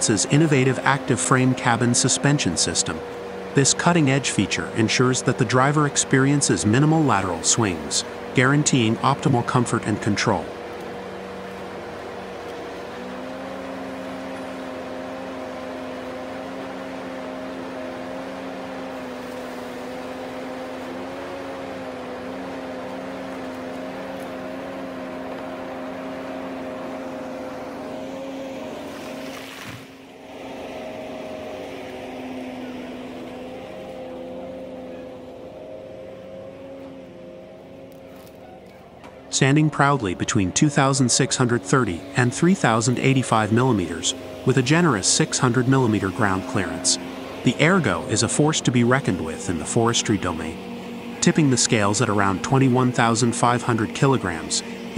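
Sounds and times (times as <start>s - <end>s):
forestry harvester droning: 0.0s - 54.9s.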